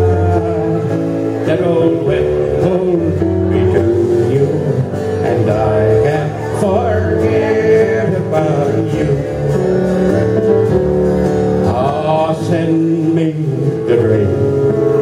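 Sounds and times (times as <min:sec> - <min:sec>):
man singing into a microphone: 0:00.0 - 0:10.4, 0:11.4 - 0:15.0
electric keyboard: 0:00.0 - 0:15.0
guitar: 0:00.0 - 0:15.0.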